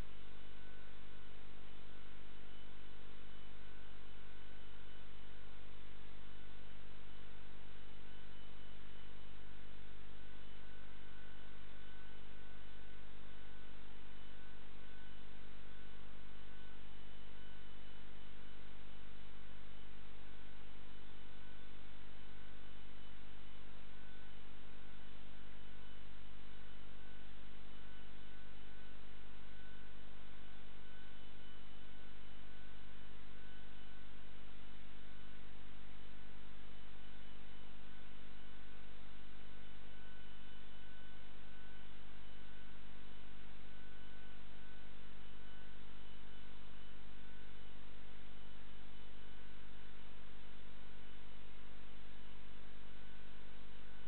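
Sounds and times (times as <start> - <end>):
constant hiss: 0.0 - 54.0
electrical mains hum: 0.0 - 54.0
faint high whine: 0.0 - 54.0.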